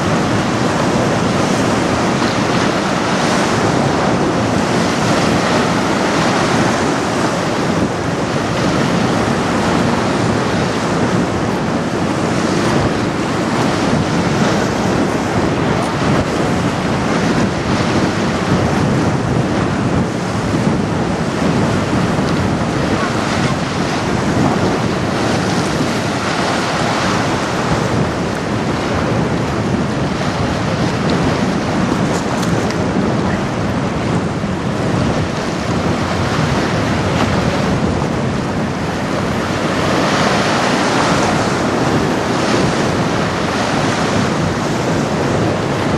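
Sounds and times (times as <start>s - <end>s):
waves washing: 0.0s - 45.9s
wind buffeting microphone: 0.0s - 45.9s.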